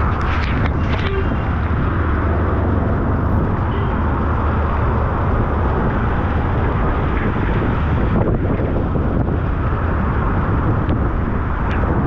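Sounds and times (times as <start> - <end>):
deep low rumble: 0.0 - 12.0.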